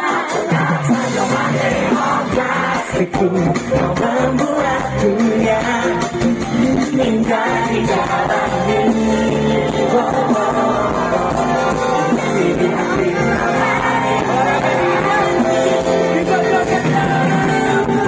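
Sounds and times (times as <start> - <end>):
live pop band music: 0.0 - 18.0
person singing: 0.0 - 18.0.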